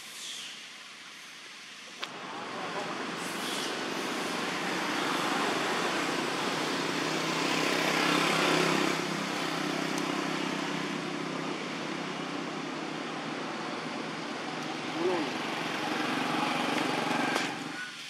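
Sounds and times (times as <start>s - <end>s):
vehicle engine and road noise: 1.9s - 18.0s.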